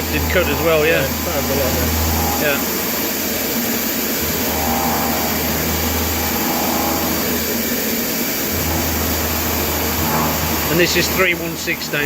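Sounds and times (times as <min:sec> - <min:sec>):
milling cutter cutting steel: 0:00.0 - 0:07.6, 0:08.4 - 0:12.0
rushing hiss of air blast: 0:00.0 - 0:12.0.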